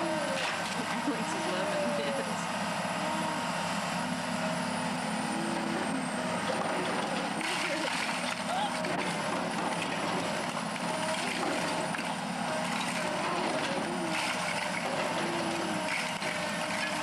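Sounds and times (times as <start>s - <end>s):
heavy demolition machinery engine: 0.0s - 17.0s.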